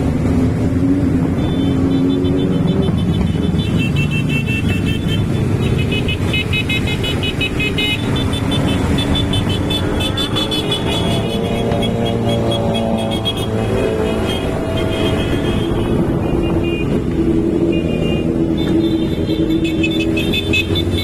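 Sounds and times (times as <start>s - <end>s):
motorcycle and car engines revving: 0.0s - 21.0s.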